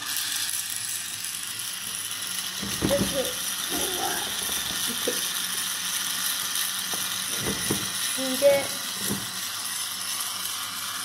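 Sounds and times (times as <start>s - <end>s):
small motor whirring buzz: 0.0s - 11.0s.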